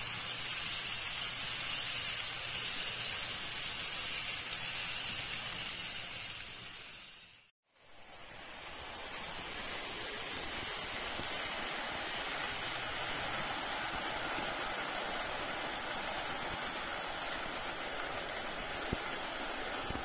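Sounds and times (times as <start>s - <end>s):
model trains whirring on rails: 0.0s - 20.0s.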